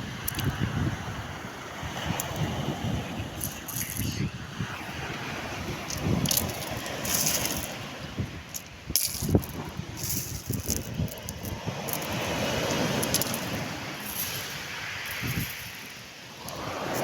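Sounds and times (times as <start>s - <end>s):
sea waves washing on shore: 0.0s - 17.0s
wind noise on microphone: 0.0s - 17.0s.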